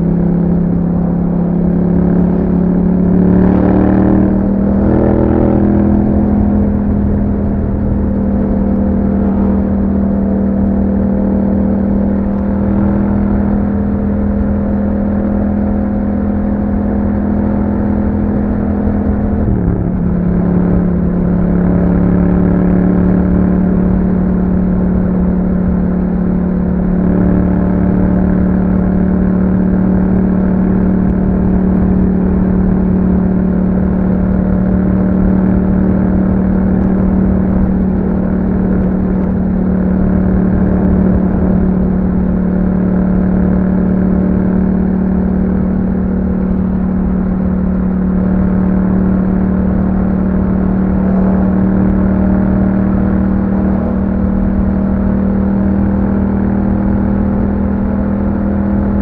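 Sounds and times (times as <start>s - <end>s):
motorcycle engine at steady revs: 0.0s - 59.0s.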